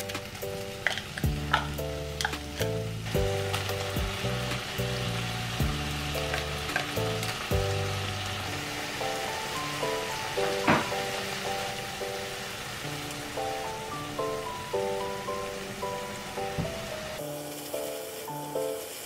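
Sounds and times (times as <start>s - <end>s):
background music: 0.0s - 19.0s
food sizzling in a frying pan: 0.0s - 19.0s.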